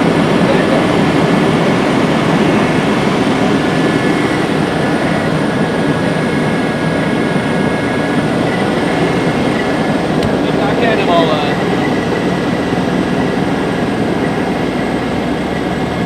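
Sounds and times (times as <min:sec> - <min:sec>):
helicopter engine and rotor noise: 0:00.0 - 0:16.0
high whine: 0:00.0 - 0:16.0.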